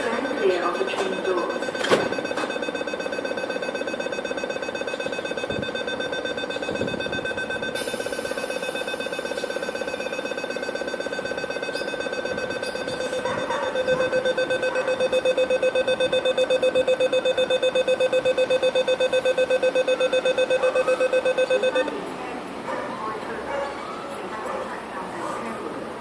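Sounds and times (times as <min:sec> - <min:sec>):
rapid electronic warning beeps: 0:00.0 - 0:21.9.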